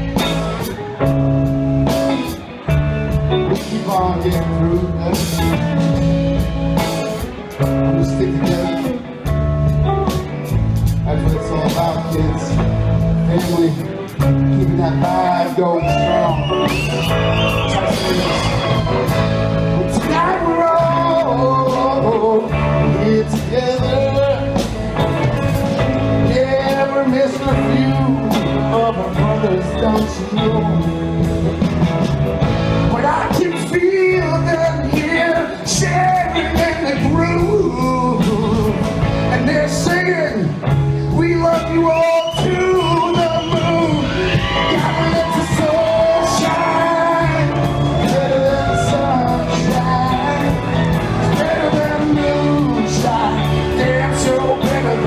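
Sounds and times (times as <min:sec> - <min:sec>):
drums steady beat: 0:00.0 - 0:55.0
live rock band playing: 0:00.0 - 0:55.0.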